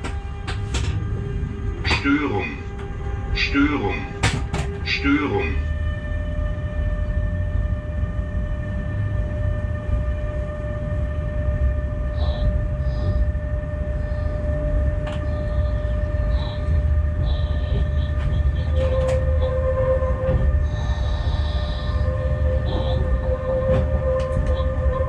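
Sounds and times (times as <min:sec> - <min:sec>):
constant tonal hum: 0:00.0 - 0:25.0
locomotive low rumble: 0:00.0 - 0:25.0.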